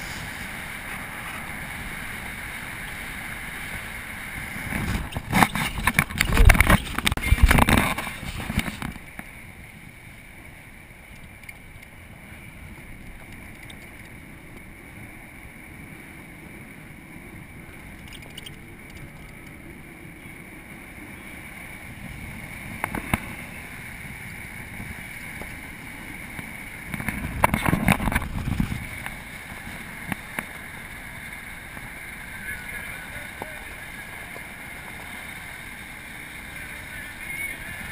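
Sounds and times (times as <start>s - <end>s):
wind on microphone: 0.0s - 9.1s, 15.8s - 37.9s
engine and tyres rumbling: 0.0s - 37.9s.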